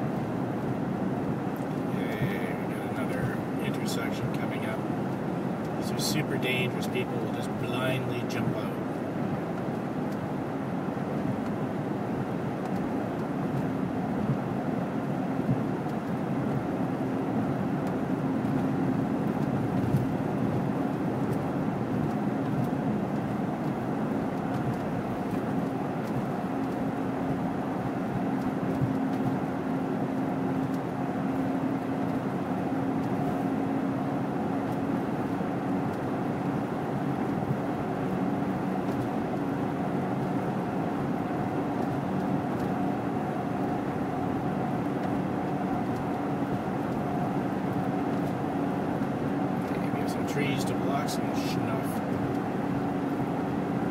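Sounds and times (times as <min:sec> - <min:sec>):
faint steady hum: 0:00.0 - 0:53.9
vehicle engine and tyres drone: 0:00.0 - 0:53.9.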